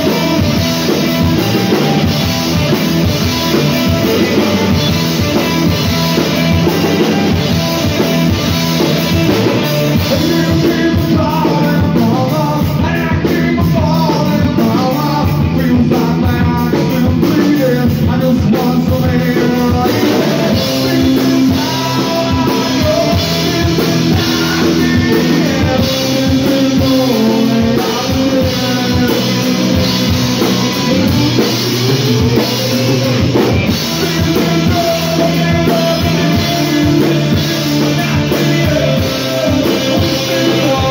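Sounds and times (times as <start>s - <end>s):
bass guitar: 0.0s - 40.9s
drum kit: 0.0s - 40.9s
man singing: 0.0s - 40.9s.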